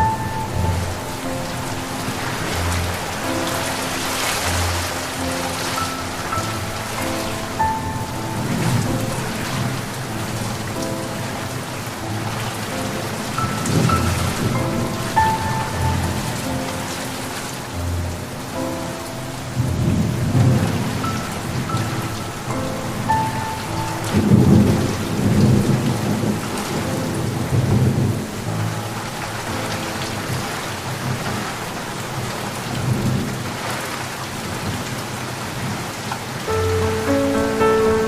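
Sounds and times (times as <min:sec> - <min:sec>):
rolling thunder: 0:00.0 - 0:17.2, 0:17.8 - 0:35.9
steady rain falling: 0:00.0 - 0:38.0.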